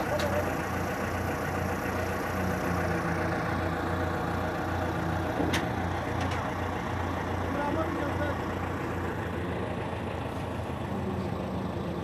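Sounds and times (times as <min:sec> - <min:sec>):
forklift engine idling: 0:00.0 - 0:12.0.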